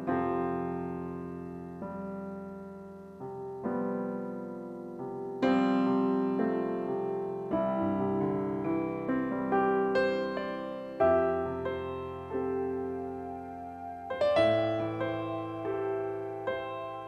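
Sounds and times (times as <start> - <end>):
gentle solo piano chords: 0.0 - 17.0.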